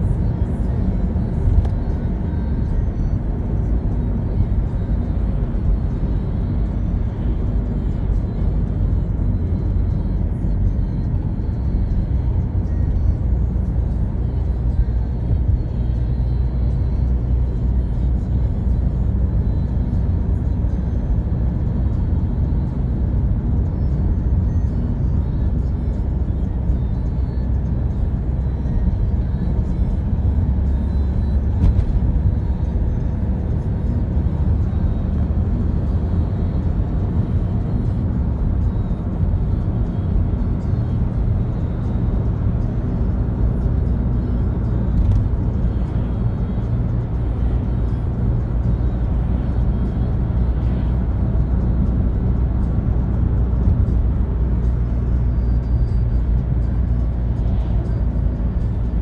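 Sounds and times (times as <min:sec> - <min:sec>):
car engine and tyre drone: 0:00.0 - 0:59.0.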